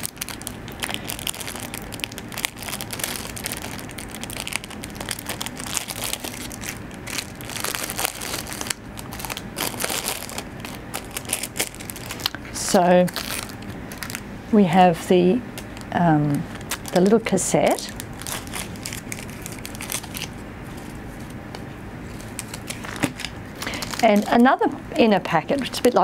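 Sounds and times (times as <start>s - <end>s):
packaging crinkling and tearing: 0.0s - 14.2s, 15.6s - 21.4s, 22.1s - 24.4s.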